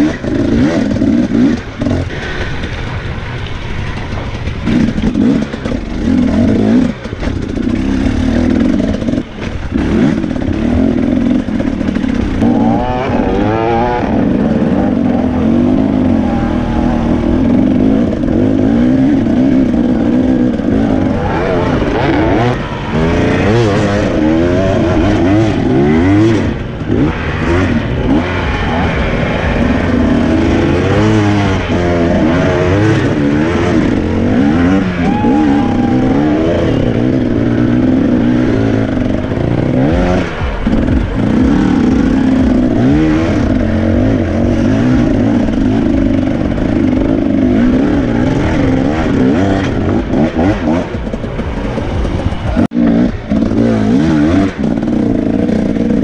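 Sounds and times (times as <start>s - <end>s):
motorcycle engine revving hard: 0.0s - 3.2s, 3.8s - 56.0s.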